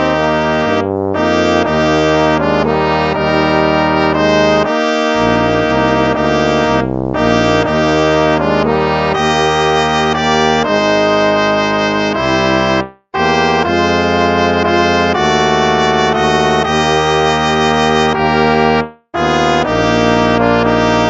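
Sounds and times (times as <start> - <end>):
slow brass chords: 0.0 - 21.0.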